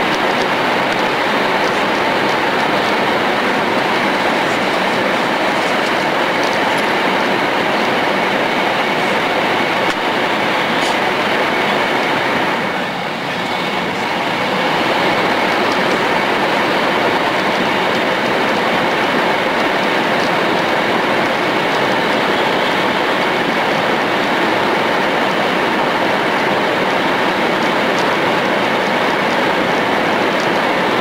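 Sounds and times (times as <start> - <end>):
high-speed train rushing: 0.0 - 31.0.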